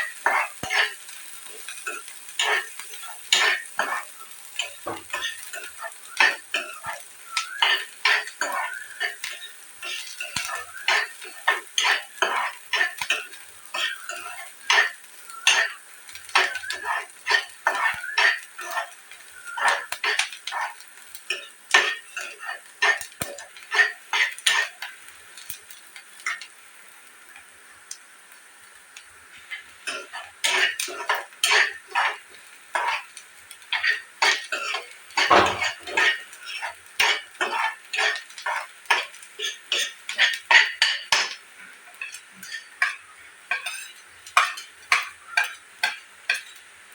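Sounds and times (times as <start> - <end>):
metal spoon scraping in pan: 0.0 - 26.5, 29.3 - 46.7
faint sizzle: 0.0 - 46.9.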